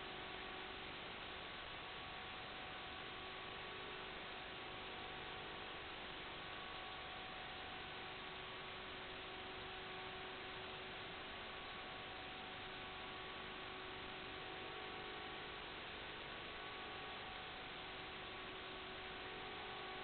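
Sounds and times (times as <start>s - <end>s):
electronic static hiss: 0.0s - 20.0s
faint hum tones: 0.0s - 20.0s.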